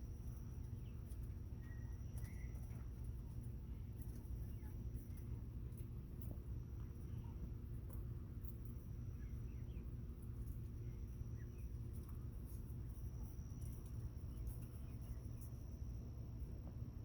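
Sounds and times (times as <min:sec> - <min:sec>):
quail chicks peeping: 0:00.0 - 0:15.8
steady low hum: 0:00.0 - 0:17.0.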